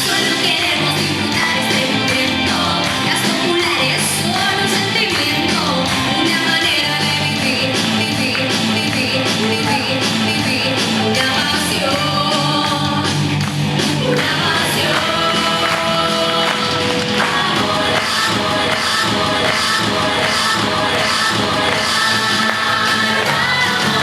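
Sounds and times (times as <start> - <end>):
pop-rock song: 0.0 - 24.0.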